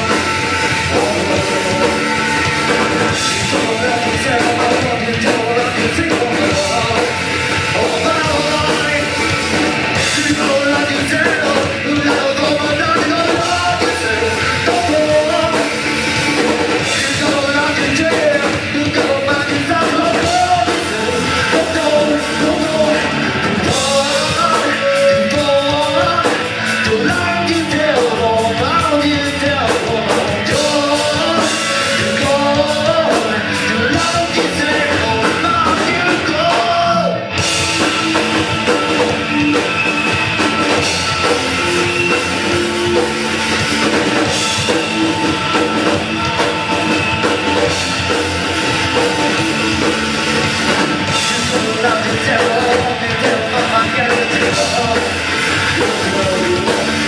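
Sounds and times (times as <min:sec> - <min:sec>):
person singing: 0:00.0 - 0:57.0
rock band playing: 0:00.0 - 0:57.0.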